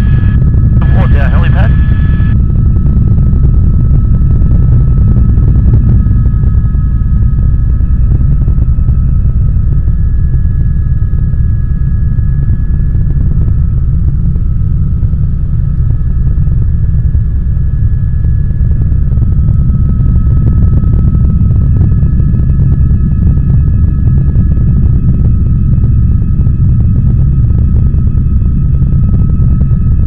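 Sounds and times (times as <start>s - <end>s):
helicopter rotor and engine drone: 0.0s - 30.0s
high whine: 0.0s - 30.0s.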